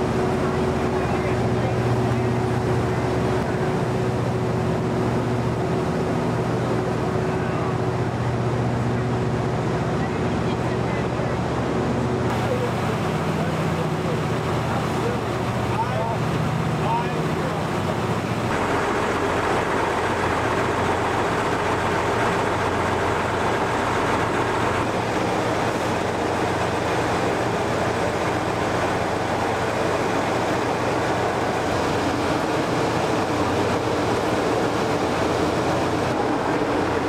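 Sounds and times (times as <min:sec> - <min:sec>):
diesel engines running: 0:00.0 - 0:37.0.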